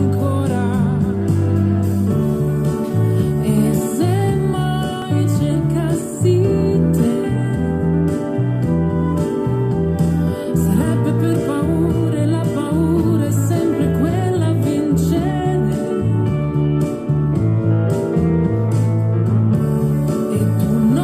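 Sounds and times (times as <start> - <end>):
held bass line: 0.0 - 21.0
sliding melody: 0.0 - 21.0.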